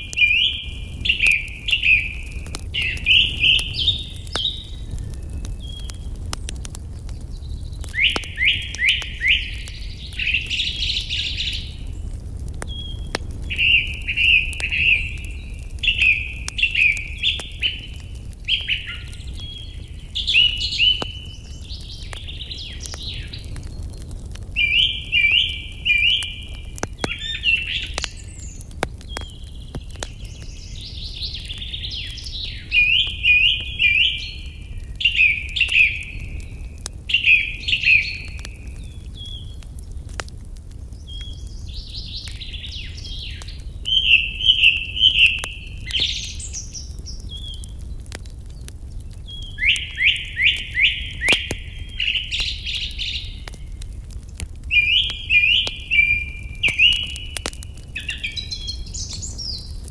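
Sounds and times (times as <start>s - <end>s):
campfire crackling and popping: 0.0s - 59.9s
songbirds chirping: 0.0s - 59.9s.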